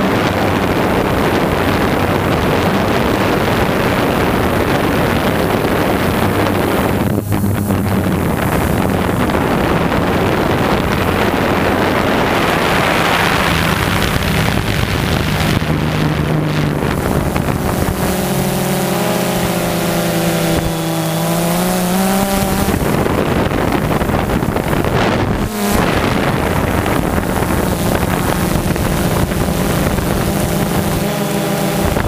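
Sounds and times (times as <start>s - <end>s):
drone motors humming: 0.0s - 32.0s
higher motor tones: 0.0s - 32.0s
wind on microphone: 0.0s - 32.0s.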